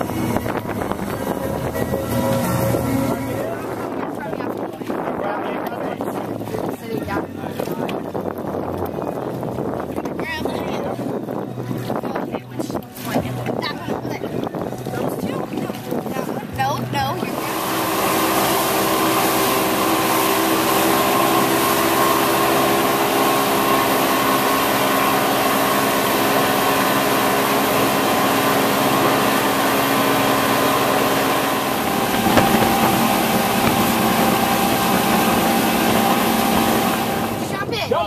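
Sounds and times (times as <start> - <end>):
motorboat engine running: 0.0 - 38.0
rushing wake water: 0.0 - 38.0
wind: 0.0 - 38.0.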